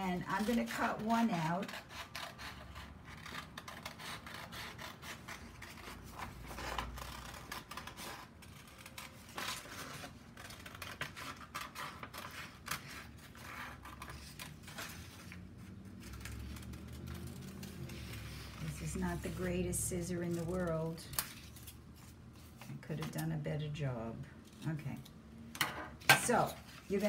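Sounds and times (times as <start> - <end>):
scissors cutting paper: 0.0 - 23.4.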